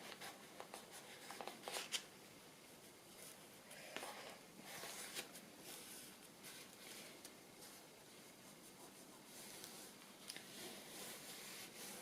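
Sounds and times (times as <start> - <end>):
paper and fabric rustling: 0.0 - 2.1, 3.1 - 12.0.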